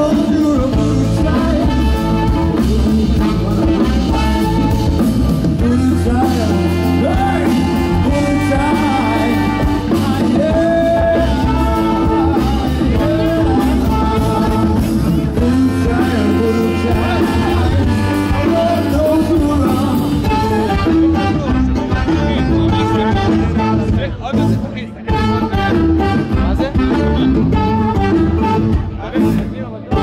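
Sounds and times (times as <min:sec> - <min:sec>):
live band music: 0:00.0 - 0:30.0
saxophone melody: 0:00.0 - 0:30.0.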